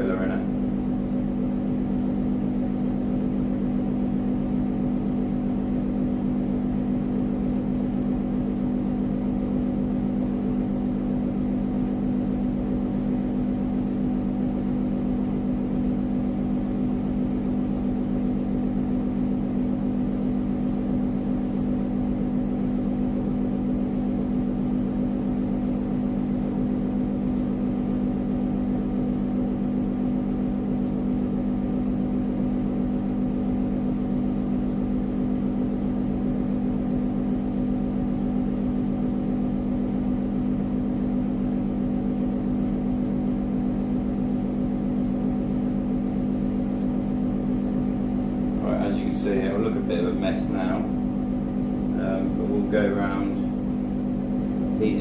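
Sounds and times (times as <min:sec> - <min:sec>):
steady multi-tone hum: 0:00.0 - 0:55.0.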